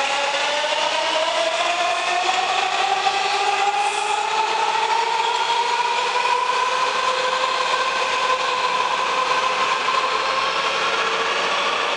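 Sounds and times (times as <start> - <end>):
train cars rumbling on rails: 0.0 - 11.9.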